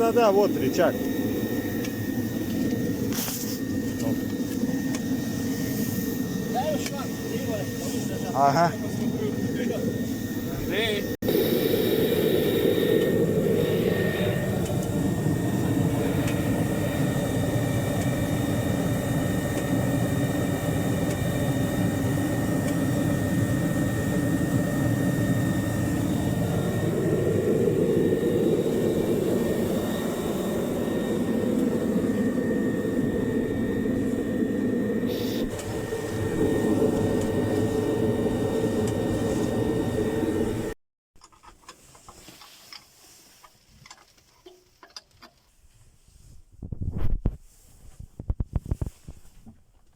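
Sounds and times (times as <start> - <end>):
drilling rig engine running: 0.0 - 40.8
thin high whine: 0.0 - 40.8.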